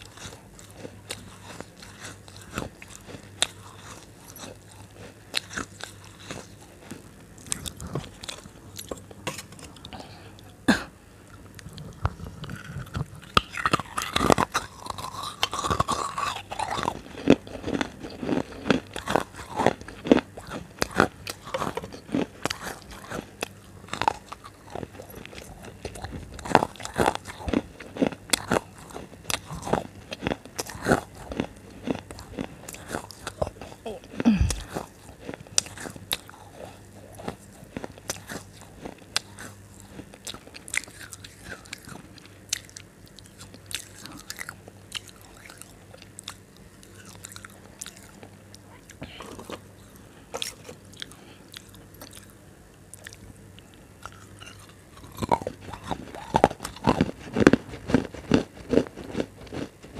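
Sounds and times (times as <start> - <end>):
chewing crunchy food: 0.0 - 59.9.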